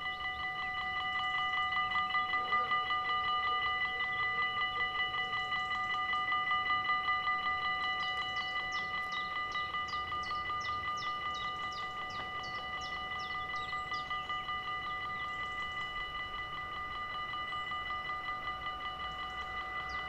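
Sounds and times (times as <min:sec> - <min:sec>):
level crossing bell ringing: 0:00.0 - 0:20.0.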